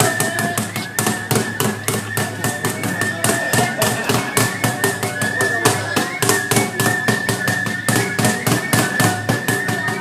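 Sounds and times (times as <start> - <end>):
rapid drum strikes: 0.0 - 10.0.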